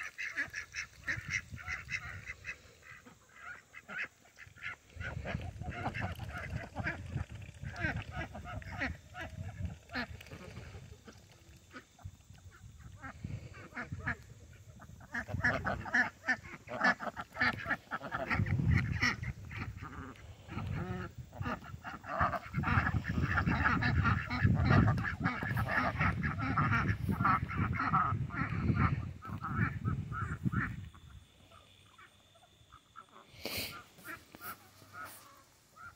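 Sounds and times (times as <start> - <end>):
ducks quacking: 0.0 - 35.9.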